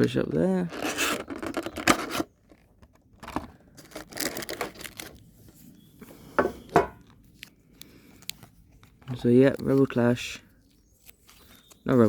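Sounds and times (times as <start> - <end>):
foil packaging crinkling: 0.7 - 5.6, 7.0 - 12.0.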